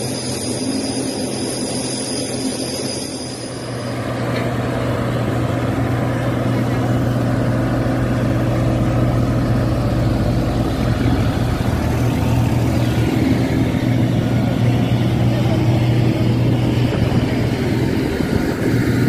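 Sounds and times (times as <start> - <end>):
engine idling: 3.6 - 19.0.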